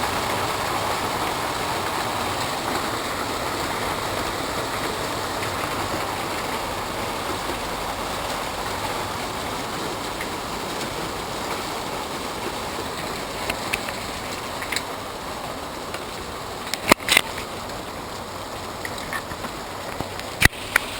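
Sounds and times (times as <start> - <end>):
hail hissing: 0.0 - 20.9
hailstones clicking on hard surface: 0.0 - 20.9.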